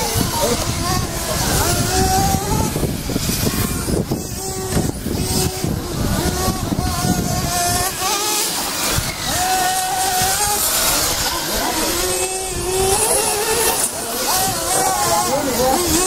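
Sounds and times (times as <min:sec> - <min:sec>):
model car motors whining: 0:00.0 - 0:16.0.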